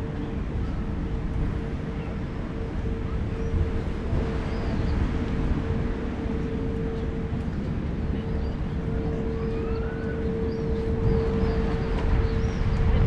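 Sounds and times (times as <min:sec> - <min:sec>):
constant hum: 0:00.0 - 0:13.0
low rumble of traffic: 0:00.0 - 0:13.0.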